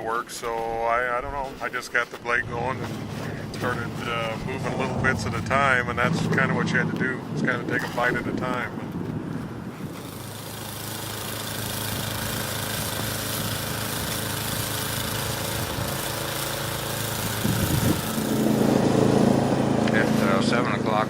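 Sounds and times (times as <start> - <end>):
snow-clearing machine engine: 2.4 - 6.9, 7.5 - 21.0.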